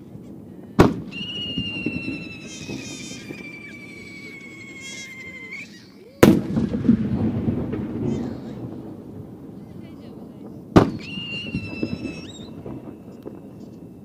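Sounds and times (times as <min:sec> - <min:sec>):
firework whistling: 0:00.0 - 0:08.9, 0:10.6 - 0:14.0
firework bursting with echo: 0:00.0 - 0:14.0.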